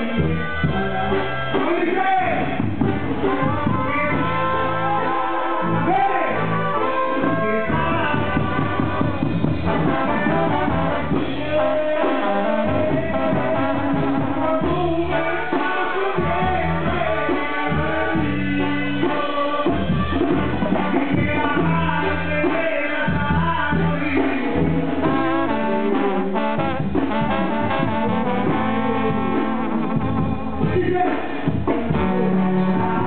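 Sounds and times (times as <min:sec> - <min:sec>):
brass band music: 0:00.0 - 0:33.0.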